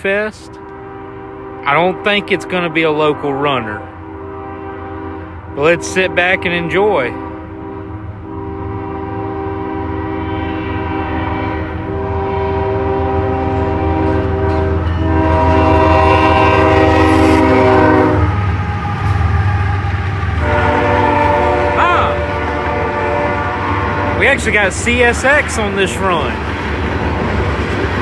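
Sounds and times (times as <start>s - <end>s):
train engines and wheels rumbling: 0.0s - 28.0s
locomotive air horn blasts: 0.1s - 26.4s.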